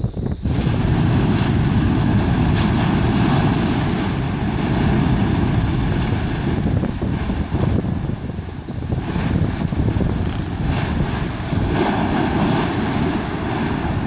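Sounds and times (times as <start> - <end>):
volcano eruption blast: 0.0 - 14.0
loud rushing of gas: 0.4 - 14.0.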